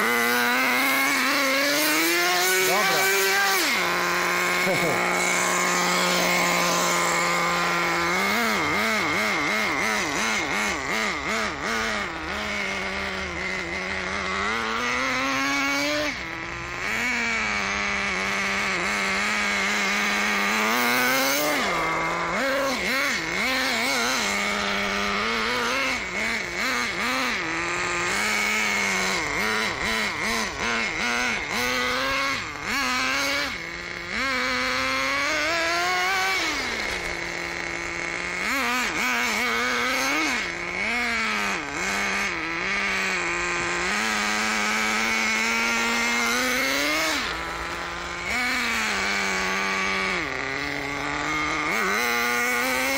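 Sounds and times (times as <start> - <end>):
steady high whine: 0.0 - 52.9
toy car motor revving: 0.0 - 52.9.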